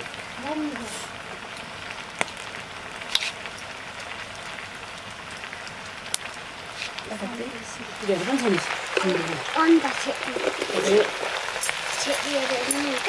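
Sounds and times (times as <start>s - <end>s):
noodles sizzling in a wok: 0.0s - 13.0s.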